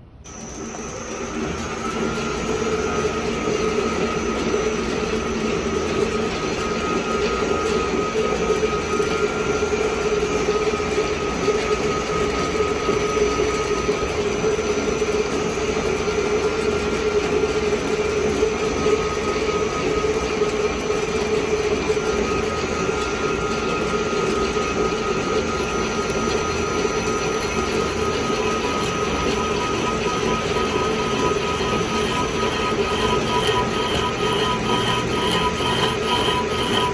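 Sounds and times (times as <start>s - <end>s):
metal lathe droning and whining: 0.3s - 36.9s.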